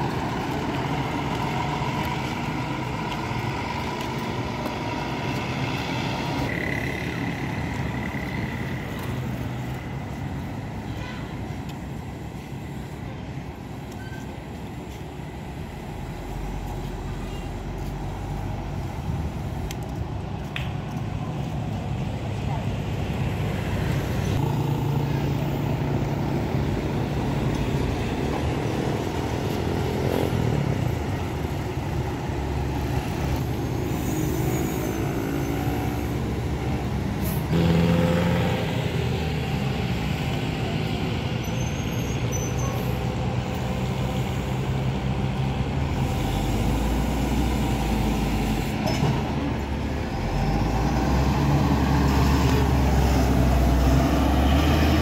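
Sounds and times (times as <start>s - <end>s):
heavy road traffic: 0.0s - 55.0s
heavy vehicle engine rumble: 0.0s - 55.0s.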